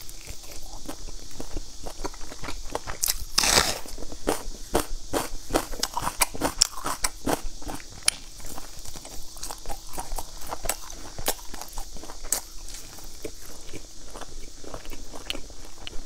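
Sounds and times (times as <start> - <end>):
close chewing and crunching: 0.0 - 16.0.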